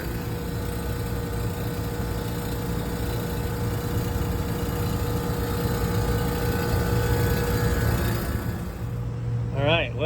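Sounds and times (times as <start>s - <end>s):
machine hum: 0.0s - 9.7s.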